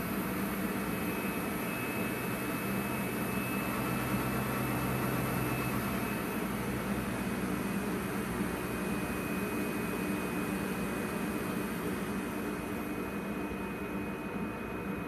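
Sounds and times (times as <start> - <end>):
locomotive low mechanical hum: 0.0 - 15.0.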